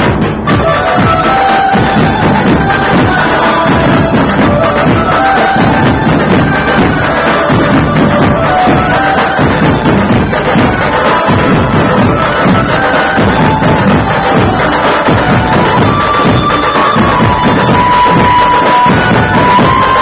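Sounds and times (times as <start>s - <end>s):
heavy drum beat: 0.0s - 20.0s.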